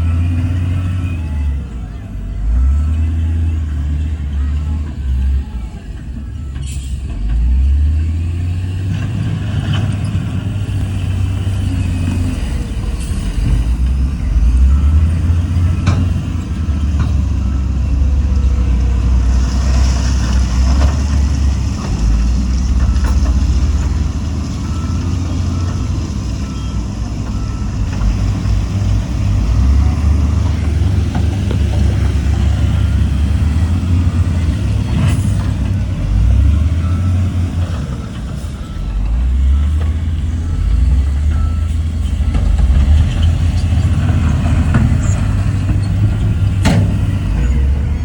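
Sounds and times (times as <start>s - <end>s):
diesel engine rumbling: 0.0s - 48.0s.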